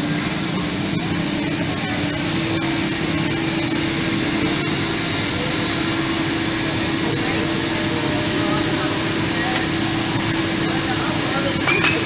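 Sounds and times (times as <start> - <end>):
fabric cutting machine running: 0.0 - 12.0.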